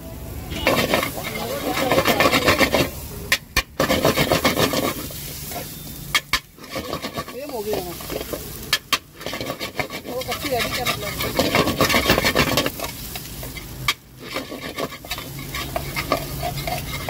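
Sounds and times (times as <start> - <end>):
metal spatula scraping iron pan: 0.5 - 17.0
spatula clanking on pan: 0.6 - 17.0.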